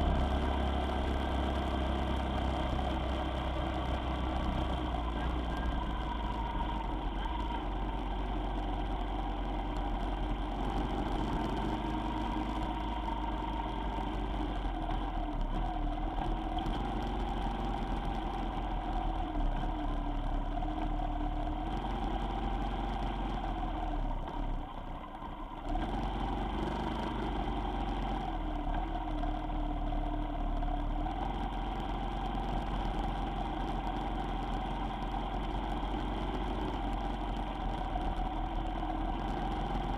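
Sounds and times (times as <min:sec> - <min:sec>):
vehicle engine driving: 0:00.0 - 0:39.9.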